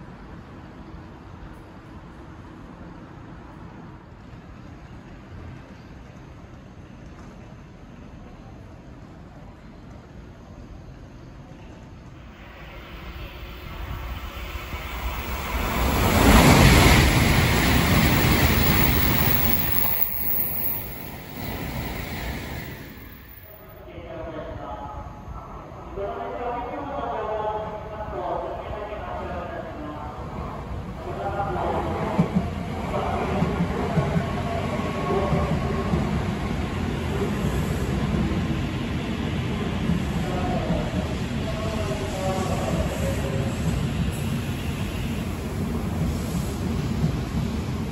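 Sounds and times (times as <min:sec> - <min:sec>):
train passing at speed: 0:00.0 - 0:47.9.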